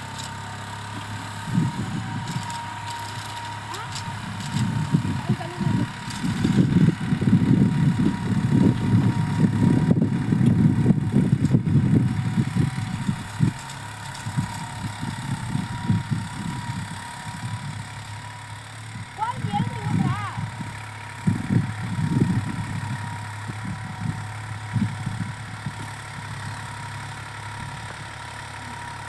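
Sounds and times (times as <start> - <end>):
tractor diesel engine rumbling: 0.0 - 29.0.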